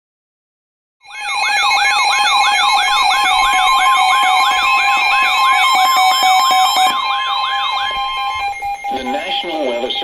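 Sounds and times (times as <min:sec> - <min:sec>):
electronic weather alert tone: 0:01.1 - 0:10.0.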